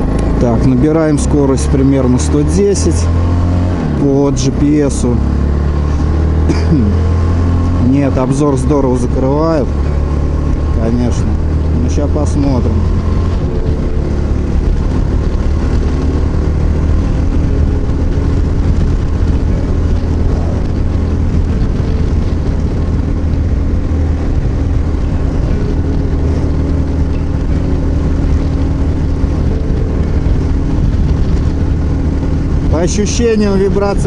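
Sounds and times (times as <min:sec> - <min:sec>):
heavy wind rush: 0:00.0 - 0:34.0
motorcycle engine cruising: 0:00.0 - 0:34.0.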